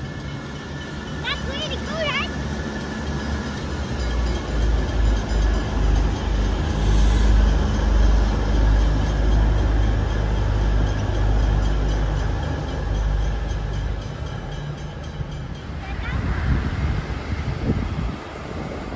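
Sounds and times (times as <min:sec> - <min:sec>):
diesel train rumbling past: 0:00.0 - 0:18.9
train wheels on rails: 0:00.0 - 0:18.9.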